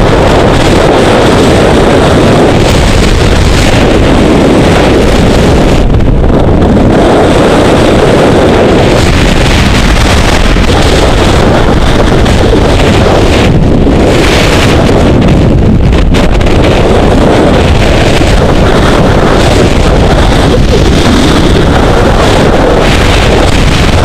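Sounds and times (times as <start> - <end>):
wind rushing across microphone: 0.0 - 24.0.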